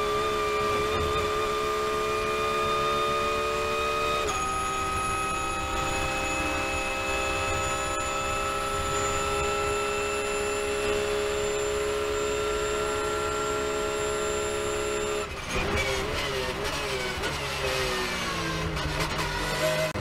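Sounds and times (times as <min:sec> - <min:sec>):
engine downshifts under braking: 0:00.0 - 0:20.0
race car engine at high revs: 0:00.0 - 0:20.0.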